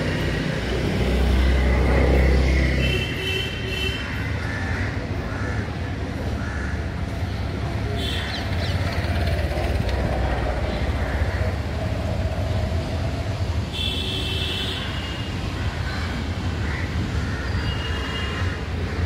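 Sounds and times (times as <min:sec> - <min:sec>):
low urban rumble: 0:00.0 - 0:19.0.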